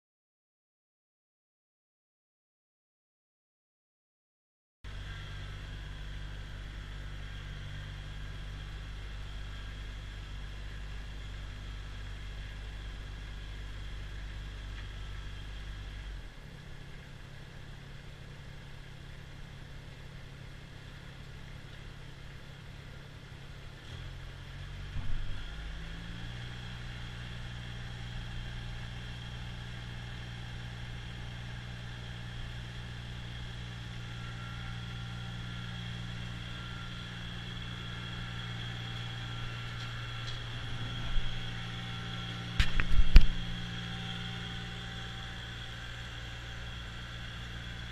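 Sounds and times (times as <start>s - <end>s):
tractor diesel engine running: 4.9s - 47.9s.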